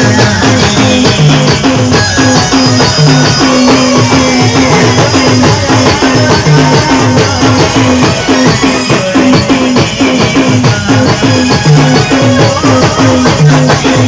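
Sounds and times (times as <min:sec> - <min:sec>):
fast dense drumming: 0:00.0 - 0:14.0
rattling shaker percussion: 0:00.0 - 0:14.0.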